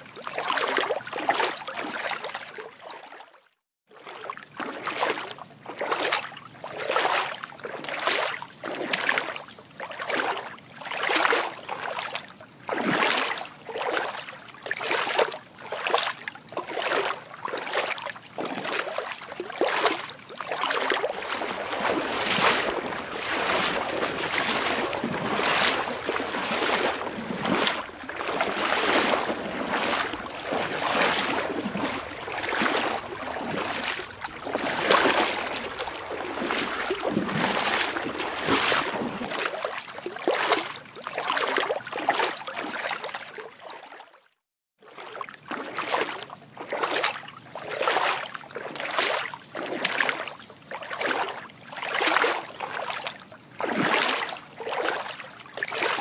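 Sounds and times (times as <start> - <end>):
water sloshing in swells: 0.0 - 44.2, 44.8 - 56.0.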